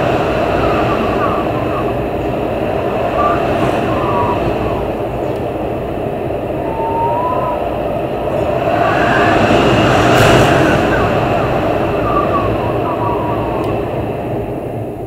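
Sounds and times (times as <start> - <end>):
strong wind blowing: 0.0 - 15.0
wind whistling: 0.0 - 15.0.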